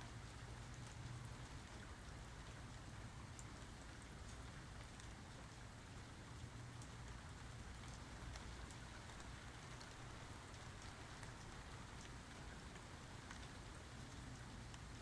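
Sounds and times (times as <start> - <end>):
faint rain falling: 0.0 - 15.0.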